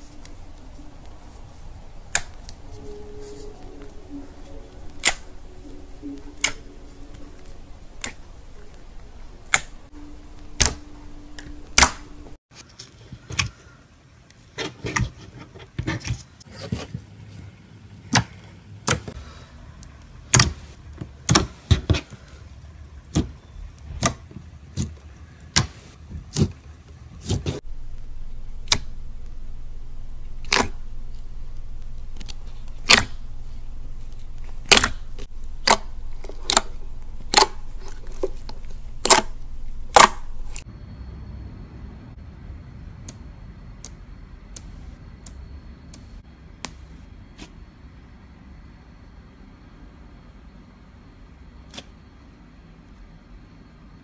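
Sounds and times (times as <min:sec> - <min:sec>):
low steady hum: 0:00.0 - 0:14.5, 0:16.3 - 0:54.0.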